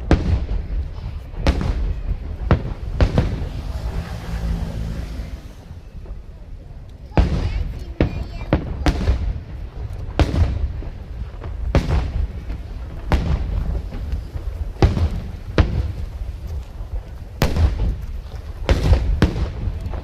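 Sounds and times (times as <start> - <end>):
fireworks booming: 0.0 - 20.0
low rumble of fireworks barrage: 0.0 - 20.0.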